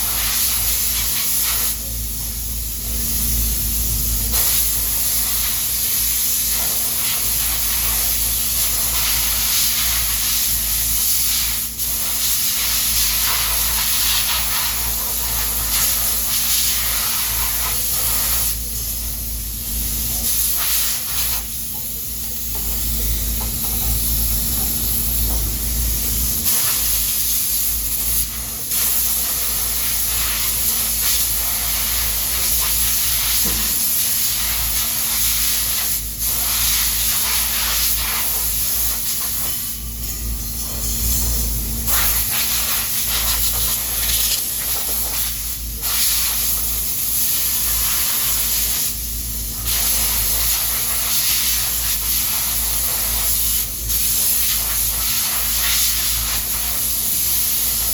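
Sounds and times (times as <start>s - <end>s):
loud hissing noise: 2.6s - 57.9s.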